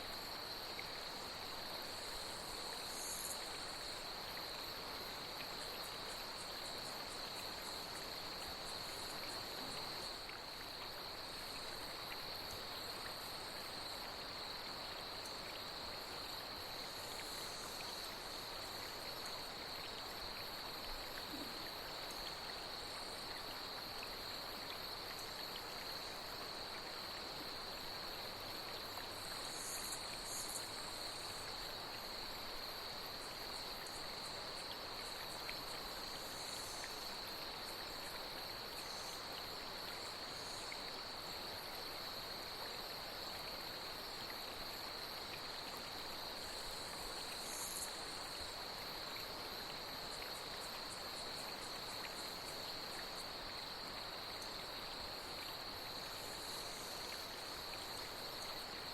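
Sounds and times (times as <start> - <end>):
flowing stream: 0.0 - 58.9
night insects chorus: 0.0 - 58.9.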